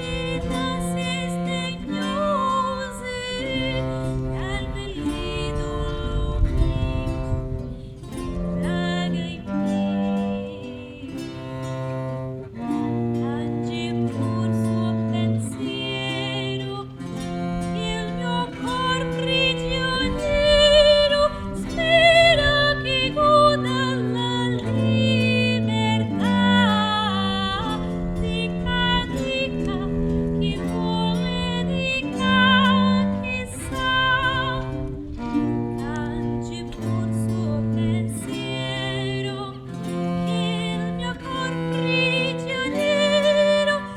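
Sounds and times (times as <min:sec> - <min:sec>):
plucked strings: 0:00.0 - 0:43.9
vibrato melody line: 0:00.0 - 0:43.9.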